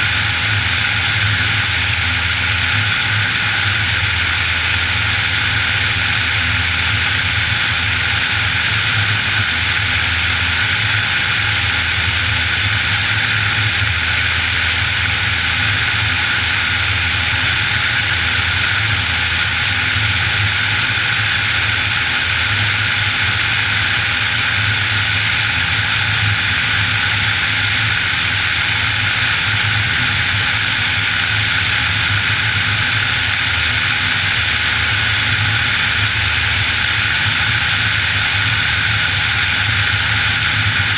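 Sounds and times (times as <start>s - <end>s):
airplane engine droning: 0.0s - 40.9s.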